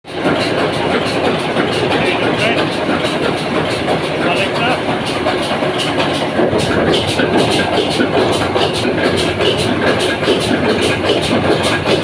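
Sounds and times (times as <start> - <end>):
heavy machinery clattering: 0.1 - 12.0.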